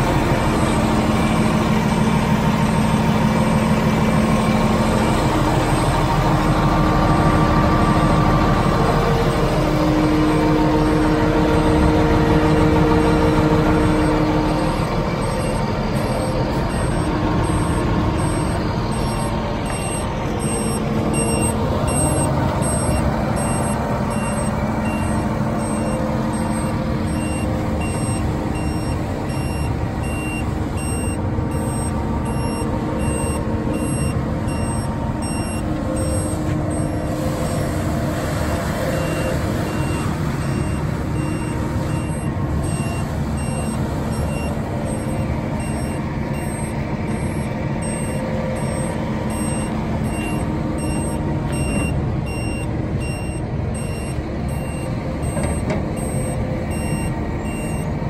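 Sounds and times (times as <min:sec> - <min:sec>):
diesel engine running: 0:00.0 - 0:58.0
reversing alarm beeping: 0:00.0 - 0:58.0.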